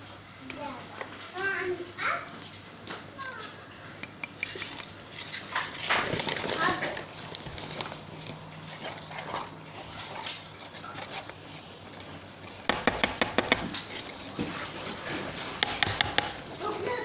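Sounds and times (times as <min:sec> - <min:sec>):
utensils clinking against a dish: 0:02.3 - 0:17.0.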